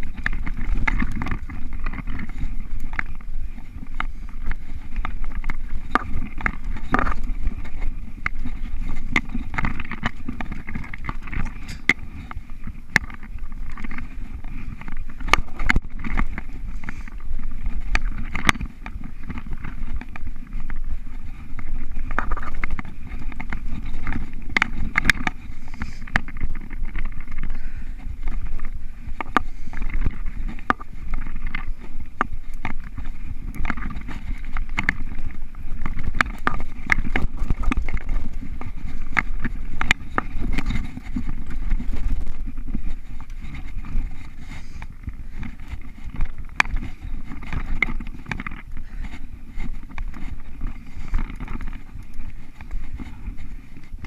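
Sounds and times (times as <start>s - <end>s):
bike clicks and rattles: 0.0s - 54.0s
wind on microphone: 0.0s - 54.0s.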